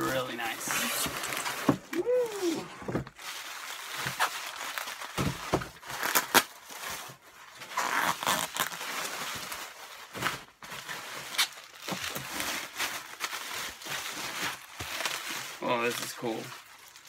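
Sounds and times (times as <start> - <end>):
bubble wrap crinkling: 0.0 - 17.0
bubble wrap sharp crackles: 0.0 - 17.0.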